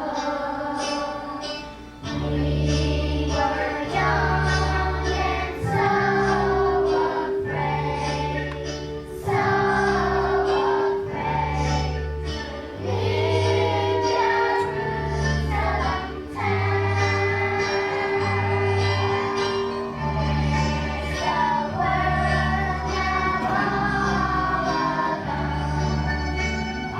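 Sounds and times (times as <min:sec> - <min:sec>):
children's choir singing: 0:00.0 - 0:26.9
low bass line: 0:02.1 - 0:26.9.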